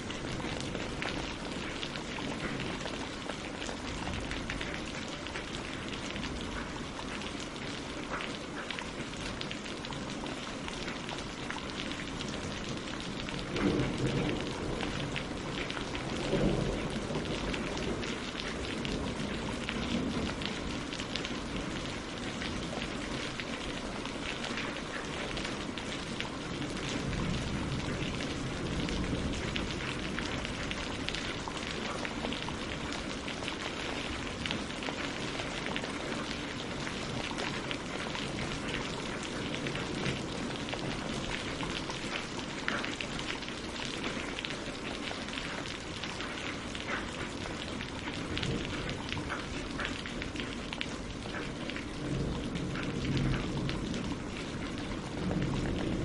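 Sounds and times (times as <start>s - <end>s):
rain on water and leaves: 0.0s - 56.0s.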